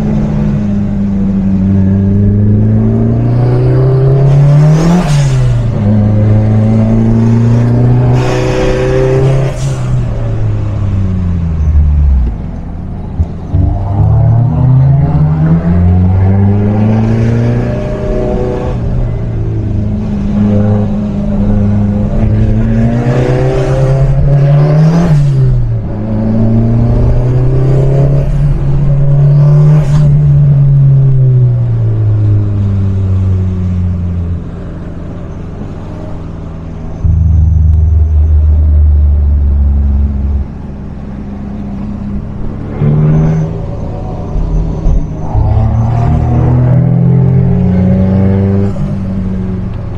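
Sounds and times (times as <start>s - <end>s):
car engine revving: 0.0s - 30.8s, 36.8s - 49.9s.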